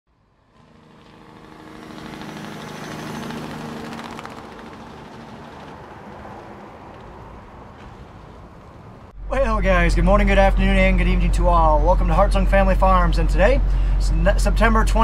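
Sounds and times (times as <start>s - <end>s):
vehicle engine humming: 0.1s - 15.0s.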